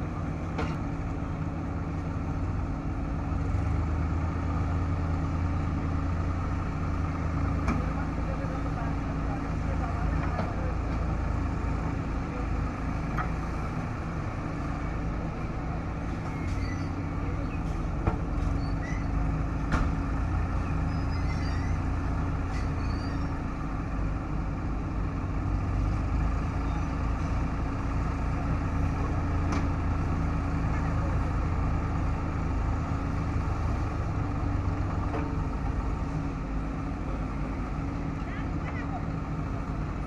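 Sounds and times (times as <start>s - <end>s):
diesel engine of heavy machinery: 0.0s - 40.0s.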